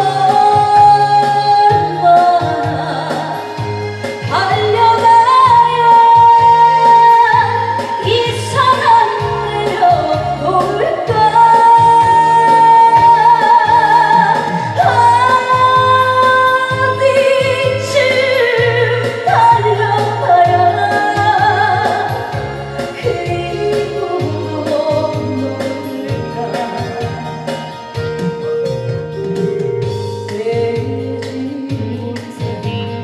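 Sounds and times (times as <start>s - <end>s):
electronic organ with bass beat: 0.0s - 33.0s
person singing with vibrato: 0.0s - 33.0s.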